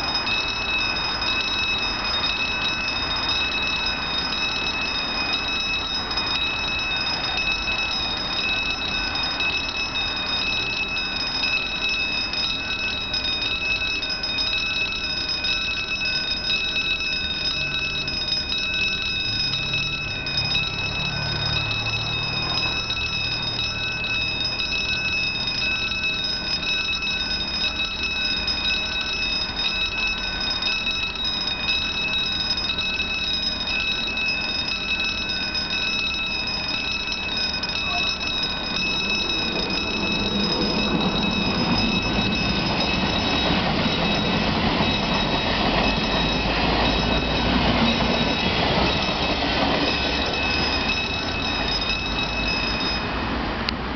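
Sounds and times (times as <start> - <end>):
electric train rumbling: 0.0 - 53.9
level crossing warning bell: 0.0 - 53.9.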